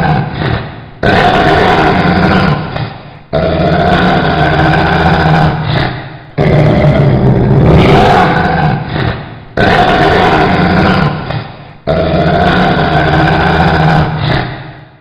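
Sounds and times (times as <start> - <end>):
dog growling: 0.0 - 14.8.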